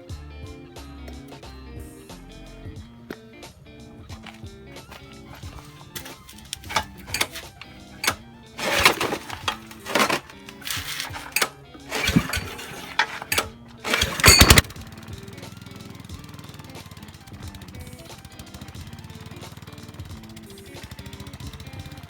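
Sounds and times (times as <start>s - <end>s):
background music: 0.0s - 22.0s
small engine running unevenly: 4.0s - 22.0s.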